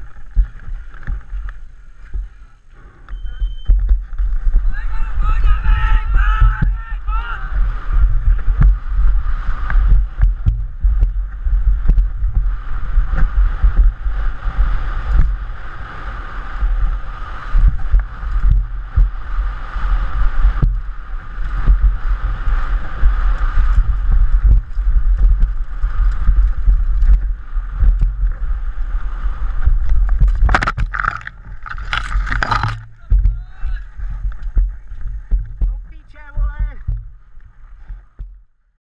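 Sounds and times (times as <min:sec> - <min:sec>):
mountain bike rattling over dirt: 0:00.0 - 0:02.5, 0:03.1 - 0:06.4, 0:07.7 - 0:38.2
wind rumble on microphone: 0:00.0 - 0:38.7.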